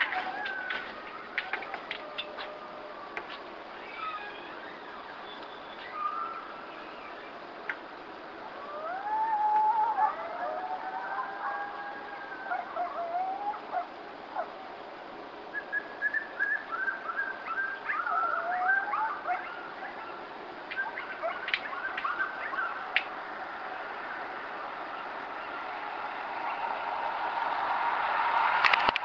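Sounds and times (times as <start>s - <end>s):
coyotes howling and yipping: 0.0s - 29.0s
steady hiss: 0.0s - 29.0s.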